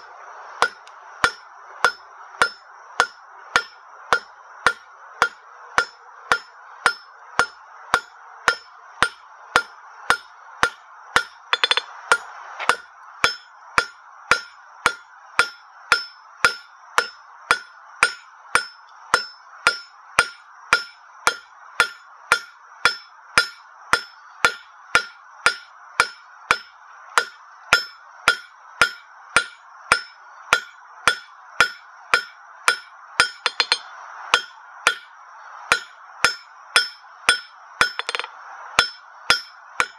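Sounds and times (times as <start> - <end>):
hammer striking steel on anvil: 0.6 - 39.9.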